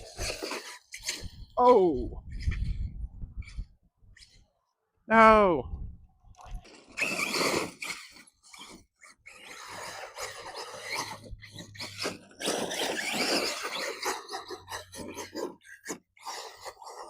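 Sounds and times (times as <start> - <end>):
rc car motor and tyres on dirt: 0.0 - 4.6, 6.1 - 17.0.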